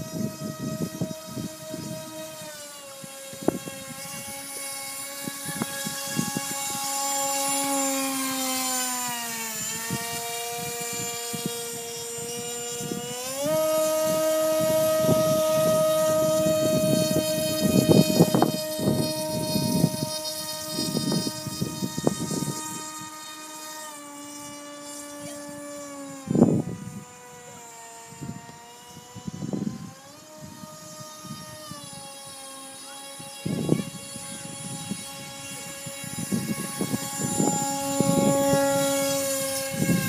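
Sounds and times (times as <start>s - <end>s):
wind buffeting microphone: 0.0s - 32.4s, 33.0s - 40.0s
model plane propeller whining: 0.0s - 40.0s.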